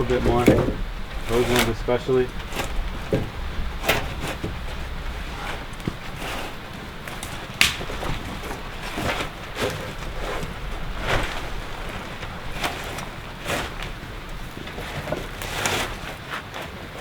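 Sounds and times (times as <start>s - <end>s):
wooden poles knocking and scraping: 0.0s - 16.4s
steady background hiss: 0.0s - 17.0s.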